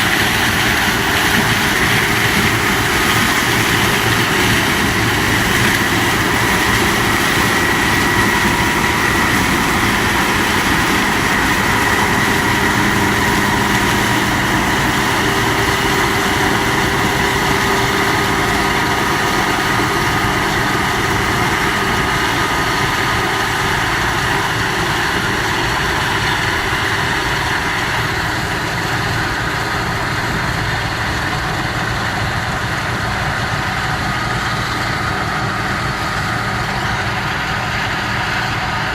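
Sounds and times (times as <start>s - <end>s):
combine engine drone: 0.0s - 38.9s
high-pitched machinery whines: 0.0s - 38.9s.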